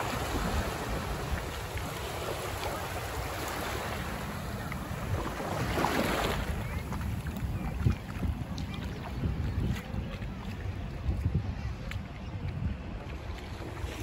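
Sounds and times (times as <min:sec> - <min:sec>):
small waves washing on sand: 0:00.0 - 0:12.1
wind buffeting microphone: 0:00.0 - 0:14.0.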